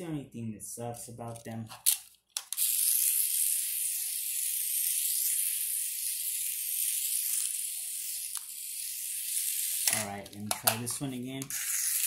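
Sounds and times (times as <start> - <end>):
toy car motor whirring: 1.7 - 12.0.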